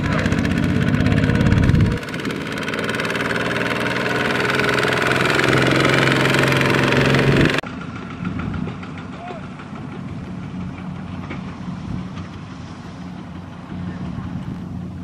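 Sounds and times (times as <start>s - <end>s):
diesel tractor engines running: 0.0s - 15.0s.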